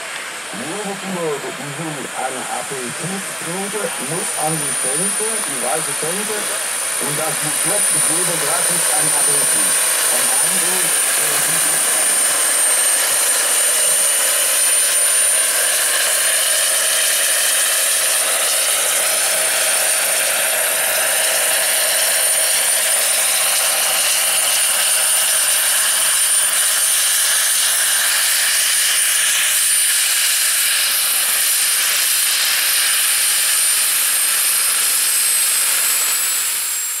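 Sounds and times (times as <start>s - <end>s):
helicopter rotor noise: 0.0s - 37.0s
high-pitched turbine whine: 0.0s - 37.0s.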